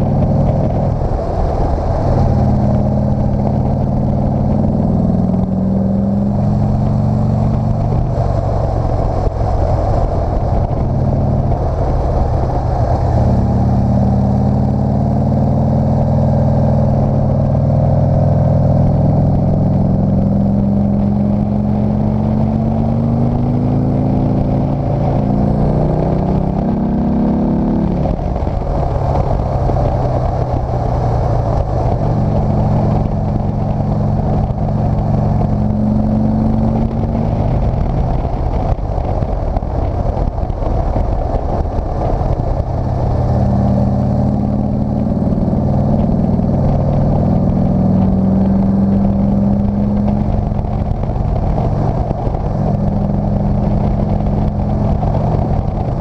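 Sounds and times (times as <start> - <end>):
motorcycle engine shifting gears: 0.0 - 56.0
wind noise: 0.0 - 56.0.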